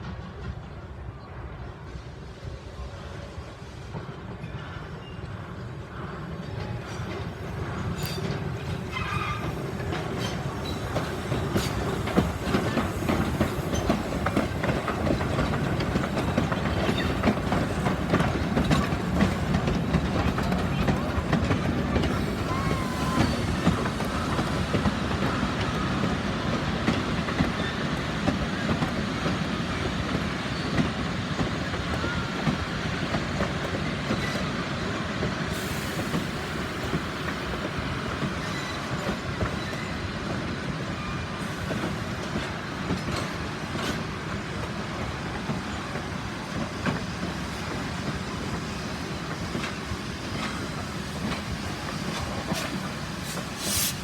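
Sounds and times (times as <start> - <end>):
train wheels clattering on rails: 3.8 - 54.0.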